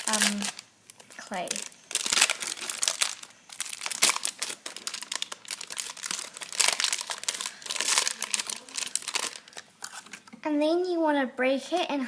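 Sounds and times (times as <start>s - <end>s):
plastic packet crinkling: 0.0s - 10.3s.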